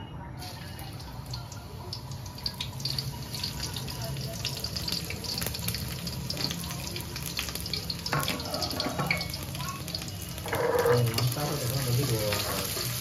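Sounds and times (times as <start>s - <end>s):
vegetables sizzling in hot oil: 0.4s - 13.0s.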